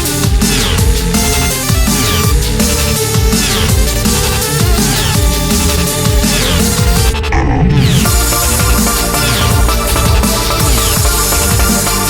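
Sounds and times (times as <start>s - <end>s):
electronic music with heavy bass: 0.0s - 12.0s
falling synth sweeps: 0.4s - 12.0s.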